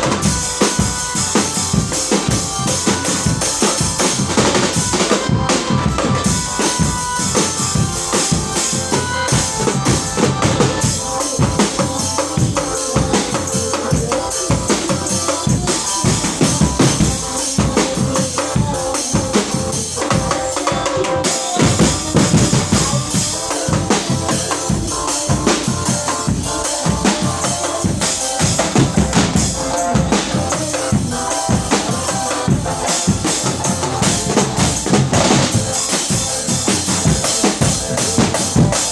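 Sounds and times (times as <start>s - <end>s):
drum-driven live music: 0.0s - 38.9s.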